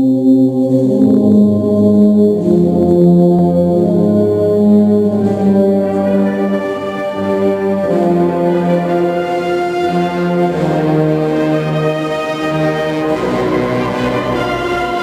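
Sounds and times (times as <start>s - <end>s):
brass band playing slow march: 2.3s - 15.0s.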